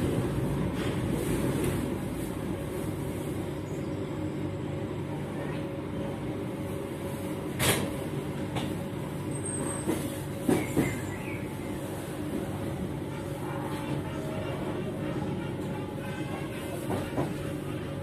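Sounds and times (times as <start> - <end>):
train rumble inside coach: 0.0 - 18.0.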